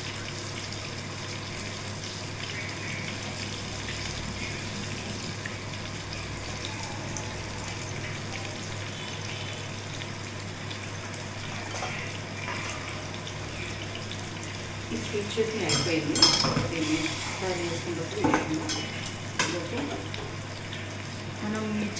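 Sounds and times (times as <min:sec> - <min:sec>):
food deep-frying in hot oil: 0:00.0 - 0:21.9.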